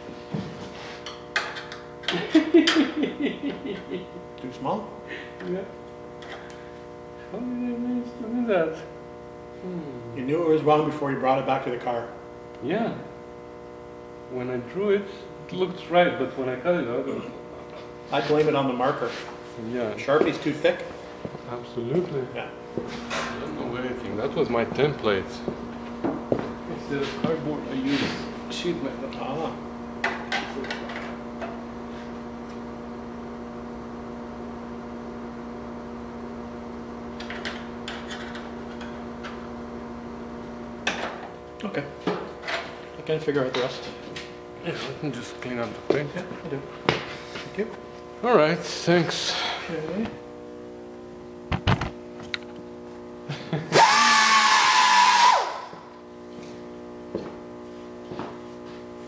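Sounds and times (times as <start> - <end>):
grinder whine: 0.0 - 59.0
machine hum: 0.0 - 59.0.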